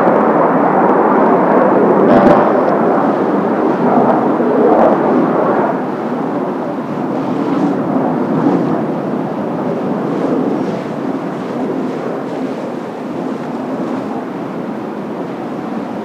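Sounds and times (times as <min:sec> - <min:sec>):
jet roar: 0:00.0 - 0:16.0
wind on microphone: 0:00.0 - 0:16.0.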